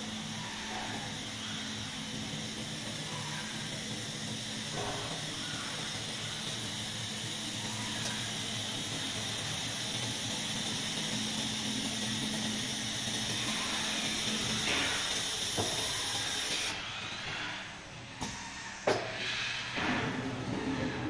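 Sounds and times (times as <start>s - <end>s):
cutting machine hiss and hum: 0.0s - 17.6s.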